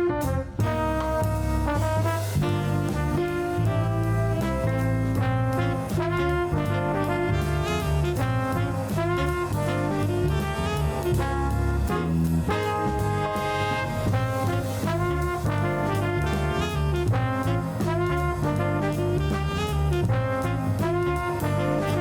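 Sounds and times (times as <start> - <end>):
jazzy brass band music: 0.0 - 22.0.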